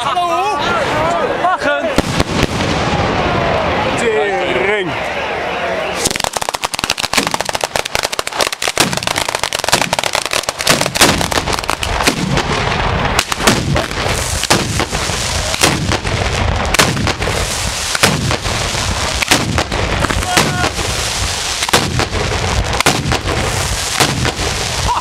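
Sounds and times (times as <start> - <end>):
firecrackers crackling: 1.8 - 4.0, 5.9 - 25.0
firework bangs: 1.9 - 3.8, 6.0 - 25.0.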